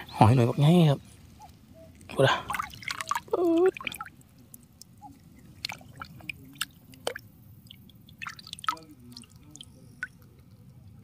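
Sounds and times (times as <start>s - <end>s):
wet clicks squelches and drips: 1.2s - 11.0s.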